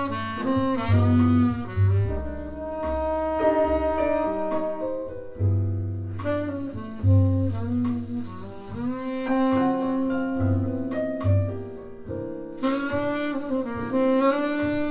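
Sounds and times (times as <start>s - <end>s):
double bass: 0.0s - 14.9s
piano: 0.0s - 14.9s
tenor saxophone melody: 0.0s - 14.9s.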